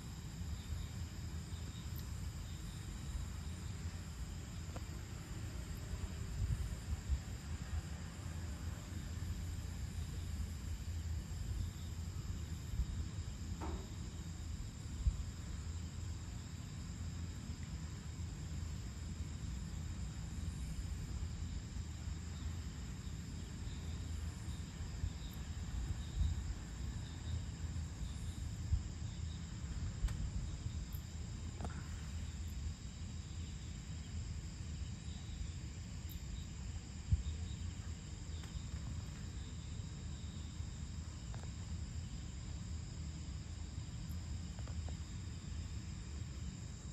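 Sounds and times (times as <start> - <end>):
crickets and insects trilling: 0.0 - 46.9.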